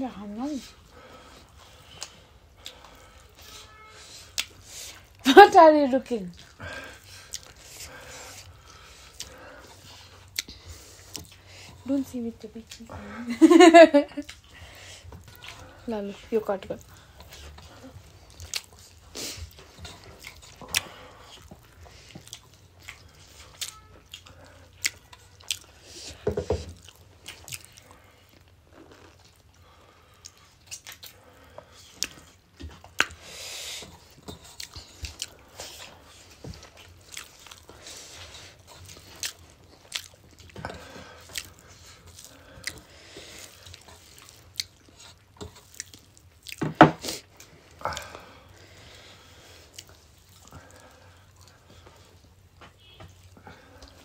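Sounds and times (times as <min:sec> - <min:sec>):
chewing and crunching: 0:00.4 - 0:05.3, 0:05.9 - 0:54.0.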